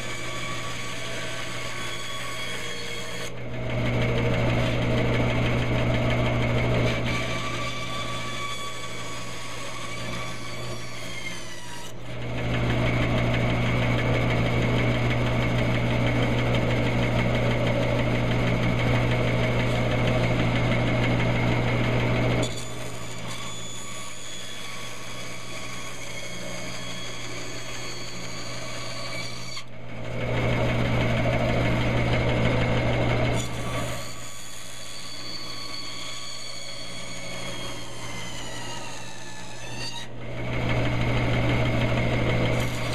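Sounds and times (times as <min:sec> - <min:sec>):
bandsaw blade cutting wood: 0:00.0 - 0:42.9
bandsaw running: 0:00.0 - 0:42.9.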